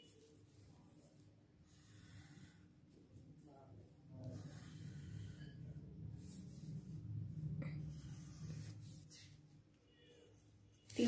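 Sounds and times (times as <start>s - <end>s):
pencil scratching on paper: 0.0s - 3.4s, 4.1s - 10.8s
low steady hum: 0.0s - 11.0s.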